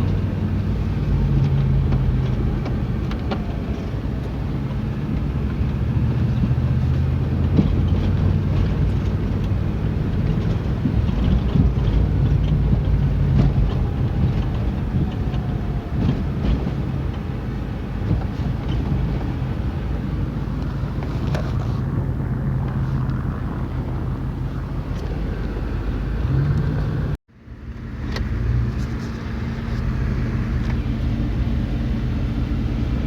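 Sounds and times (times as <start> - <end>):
car engine running while driving: 0.0 - 33.0
road and wind noise: 0.0 - 33.0.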